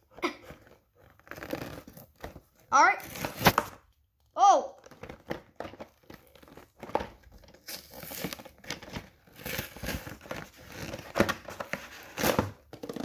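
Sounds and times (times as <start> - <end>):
plastic packaging crinkling: 0.4 - 3.8, 4.8 - 13.0.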